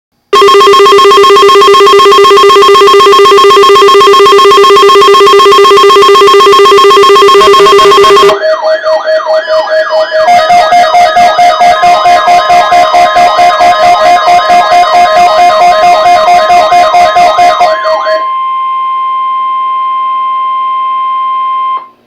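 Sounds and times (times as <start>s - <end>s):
weather radio alarm tone: 0.4s - 21.9s.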